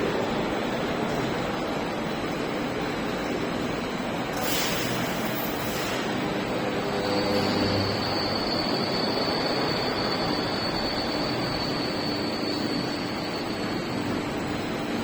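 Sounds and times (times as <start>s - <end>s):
faint high whine: 2.6s - 15.0s.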